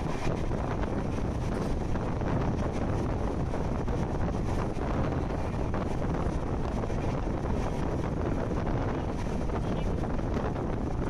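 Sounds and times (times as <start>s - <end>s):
train rumbling along track: 0.0s - 11.0s
wind buffeting microphone: 0.0s - 11.0s.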